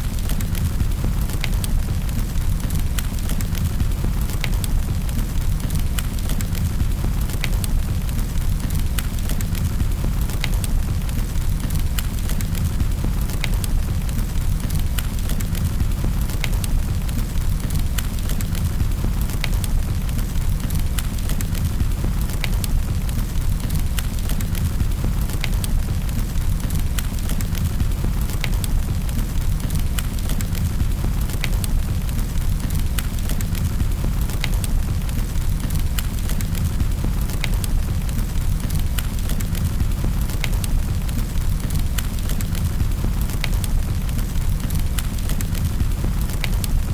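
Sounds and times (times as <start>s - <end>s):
fire crackling and popping: 0.0s - 46.9s
fire rumbling in fireplace: 0.0s - 46.9s.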